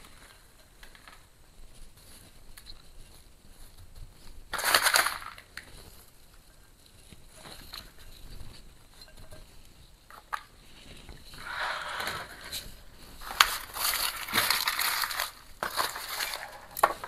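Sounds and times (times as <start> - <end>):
potting mix crunching and rustling: 0.0 - 17.0.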